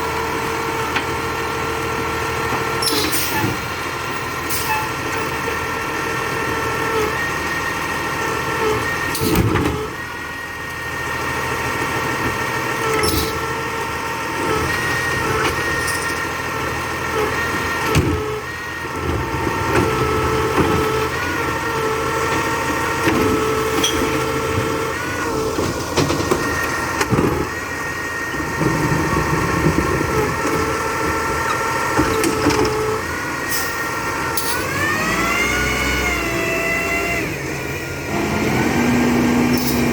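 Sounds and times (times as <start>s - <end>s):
truck multi-tone whine: 0.0s - 39.9s.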